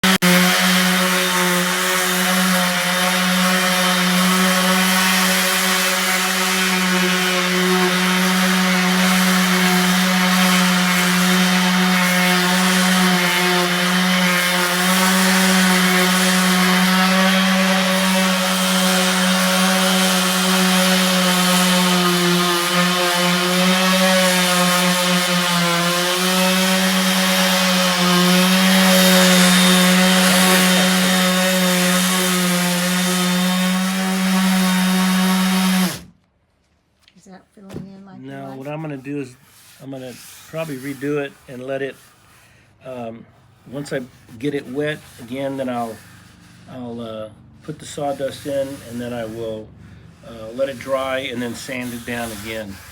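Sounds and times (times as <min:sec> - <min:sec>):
electric sander sanding wood: 0:00.0 - 0:36.2, 0:38.3 - 0:52.9.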